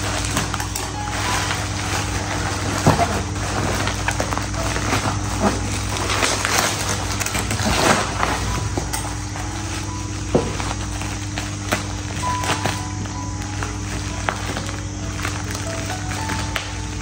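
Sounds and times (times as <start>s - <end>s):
packaging rustling and crinkling: 0.0s - 17.0s
steady low hum: 0.0s - 17.0s.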